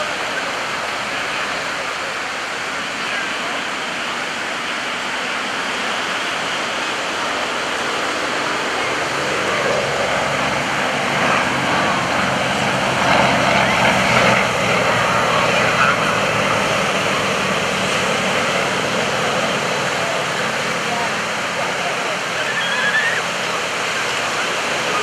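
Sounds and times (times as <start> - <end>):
propeller engine drone: 0.0 - 25.0
steady rushing noise: 0.0 - 25.0.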